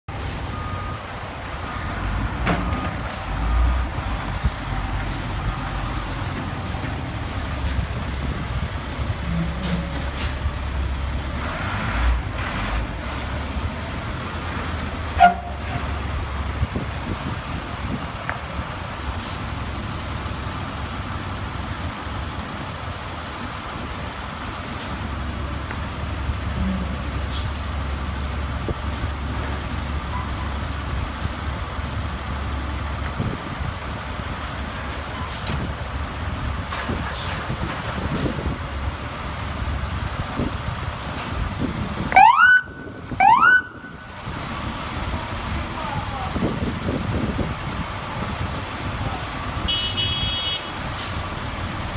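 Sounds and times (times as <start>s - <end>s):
diesel truck engine running: 0.1s - 51.9s.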